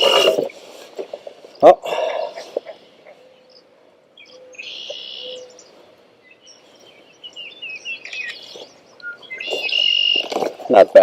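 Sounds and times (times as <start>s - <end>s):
songbird warbling: 1.4s - 10.5s.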